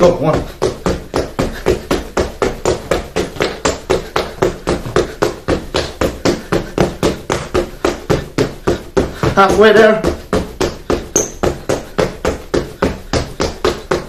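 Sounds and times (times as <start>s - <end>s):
trainers thudding on floor: 0.0s - 14.0s.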